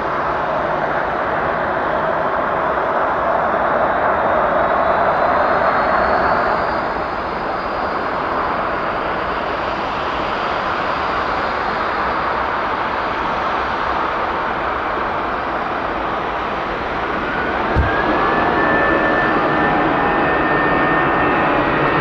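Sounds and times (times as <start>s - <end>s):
jet engine rumble and hiss: 0.0s - 22.0s.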